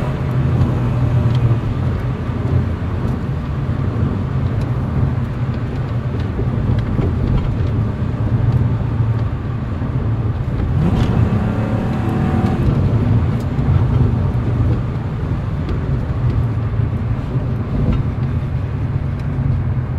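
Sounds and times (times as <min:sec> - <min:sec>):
car exhaust drone from cabin: 0:00.0 - 0:19.9.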